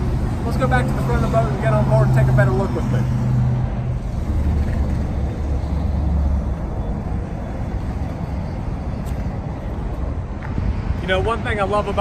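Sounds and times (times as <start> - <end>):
heavy vehicle rumble: 0.0 - 12.0
passing vehicles: 0.0 - 12.0.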